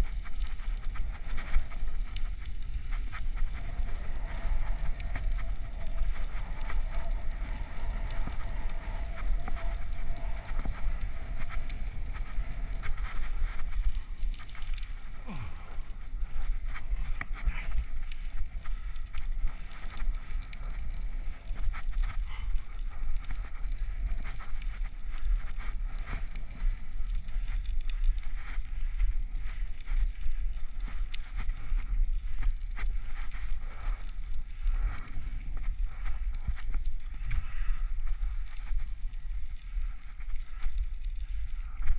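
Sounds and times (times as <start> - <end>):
bicycle tyre noise: 0.0 - 41.9
wind rumbling on microphone: 0.0 - 41.9.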